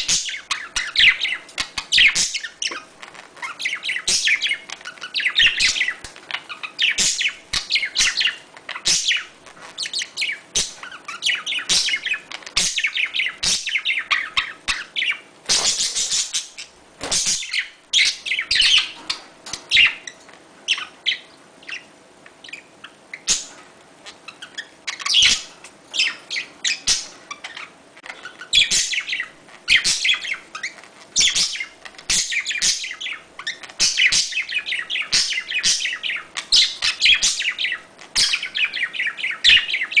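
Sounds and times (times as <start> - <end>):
budgerigars chattering: 0.0 - 40.0.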